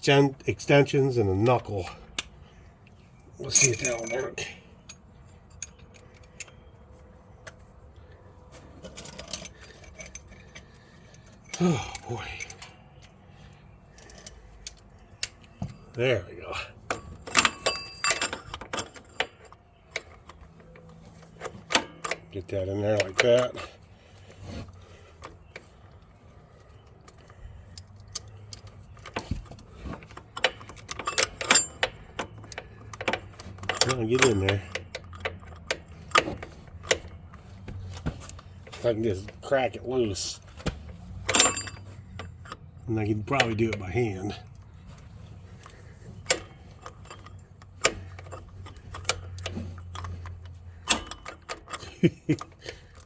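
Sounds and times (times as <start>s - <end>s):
metal hand tools clinking: 3.4s - 6.7s, 8.8s - 13.2s, 13.9s - 23.7s, 26.7s - 40.5s, 41.1s - 53.0s.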